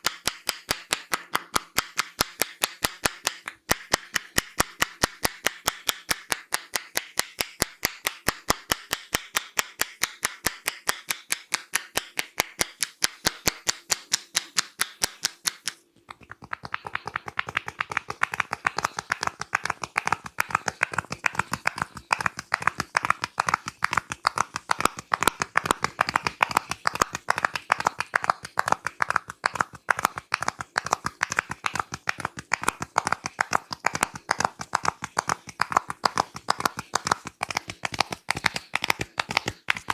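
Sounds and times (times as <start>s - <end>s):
hands slapping in head massage: 0.0s - 39.9s.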